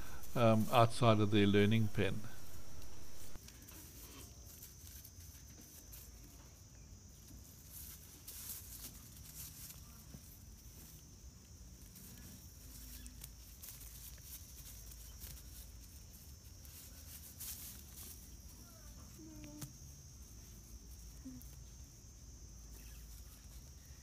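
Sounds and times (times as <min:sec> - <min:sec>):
rustles and taps in grass: 0:02.4 - 0:21.7.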